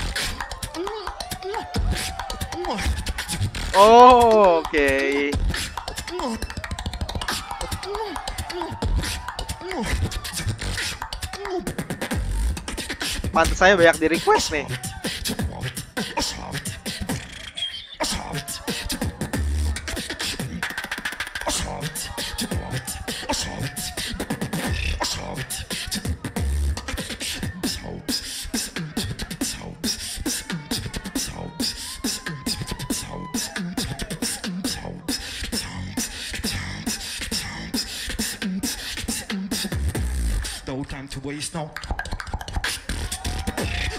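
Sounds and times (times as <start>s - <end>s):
beatboxing: 0.0s - 43.9s.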